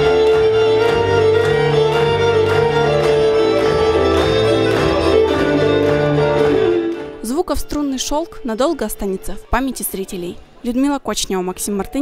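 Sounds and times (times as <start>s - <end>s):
solo violin melody: 0.0s - 9.7s.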